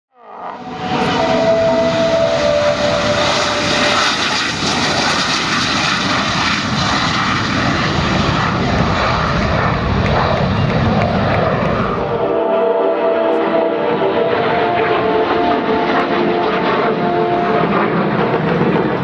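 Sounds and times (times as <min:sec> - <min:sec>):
jet aircraft taking off: 0:00.4 - 0:19.0.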